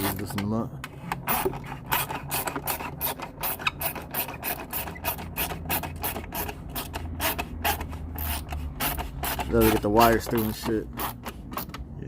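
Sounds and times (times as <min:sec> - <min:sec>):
hand ratchet clicking: 0:01.1 - 0:11.9.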